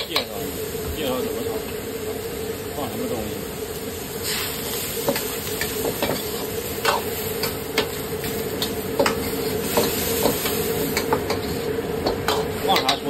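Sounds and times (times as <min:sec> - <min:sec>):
food sizzling: 0:00.0 - 0:13.0
gas range humming: 0:00.0 - 0:13.0.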